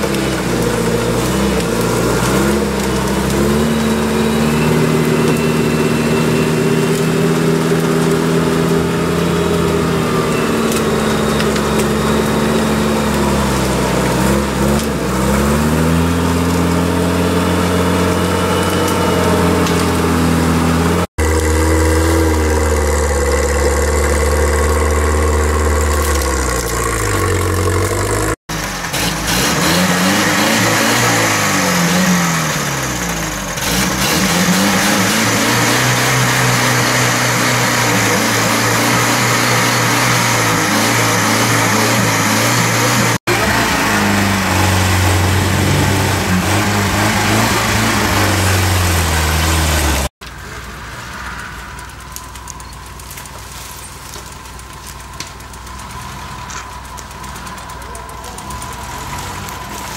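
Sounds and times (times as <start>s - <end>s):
off-road vehicle engines revving: 0.0s - 59.9s.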